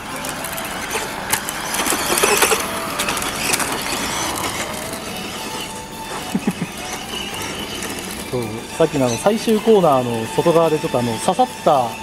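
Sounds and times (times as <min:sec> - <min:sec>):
toy car motor whine: 0:00.0 - 0:12.0.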